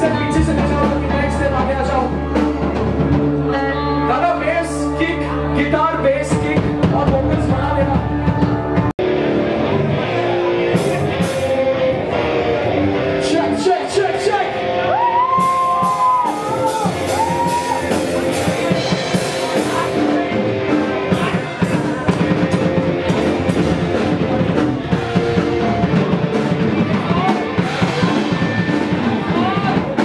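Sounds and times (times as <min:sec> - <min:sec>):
drum kit beating: 0:00.0 - 0:30.0
electric guitar: 0:00.0 - 0:30.0
live rock band playing: 0:00.0 - 0:30.0.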